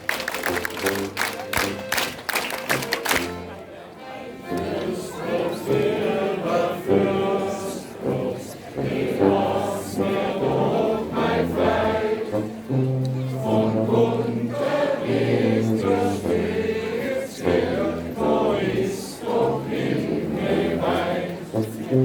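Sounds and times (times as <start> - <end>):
many voices singing folk song: 4.0 - 22.0.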